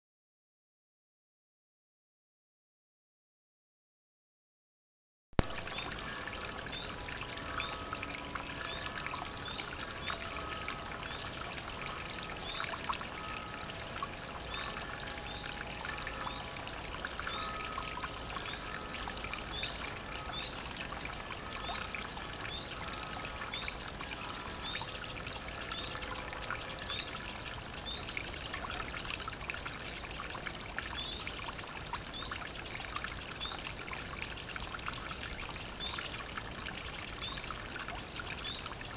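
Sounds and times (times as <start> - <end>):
stream trickling into pool: 5.4 - 38.9.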